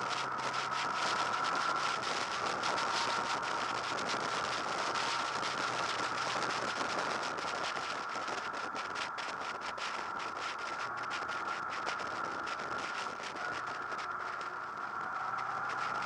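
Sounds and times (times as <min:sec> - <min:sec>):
steady high whine: 0:00.0 - 0:16.0
wind rushing over microphone: 0:00.0 - 0:16.0.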